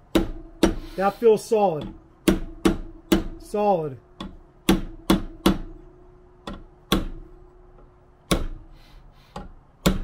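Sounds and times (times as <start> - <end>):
hammer tapping metal drift: 0.0 - 10.0.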